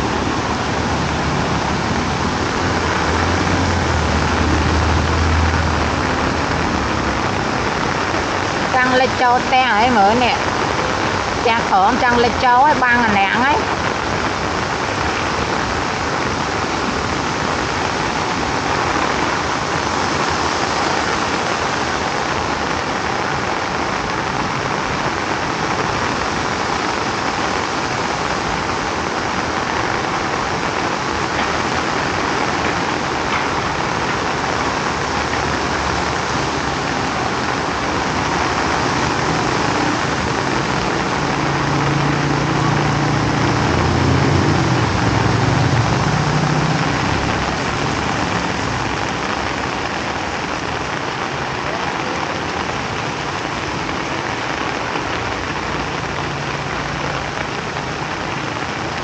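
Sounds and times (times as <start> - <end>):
vehicle engine hum: 0.0 - 9.7, 10.4 - 59.0
heavy rain: 0.0 - 59.0.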